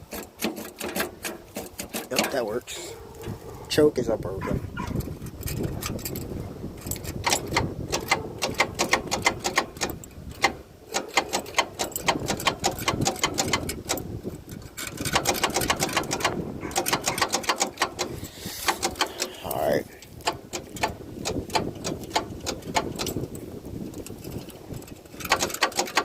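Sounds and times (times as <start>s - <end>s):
starter clicking rapidly: 0.0s - 2.7s, 4.8s - 26.0s.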